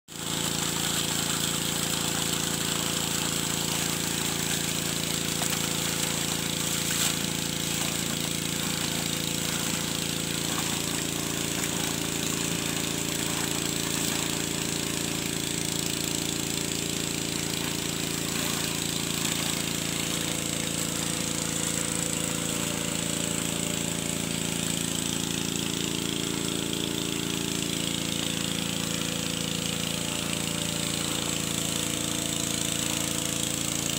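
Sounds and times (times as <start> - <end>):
engine-driven water pump running: 0.1 - 33.9.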